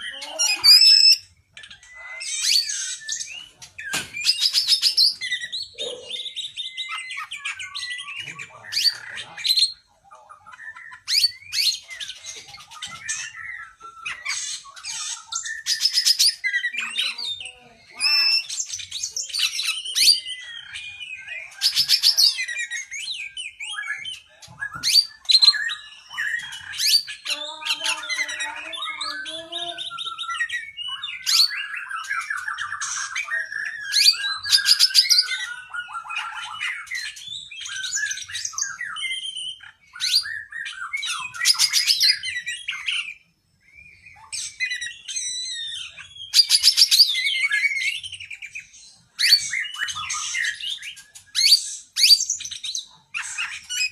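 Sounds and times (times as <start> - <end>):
bird singing trills and whistles: 0.0 - 53.9.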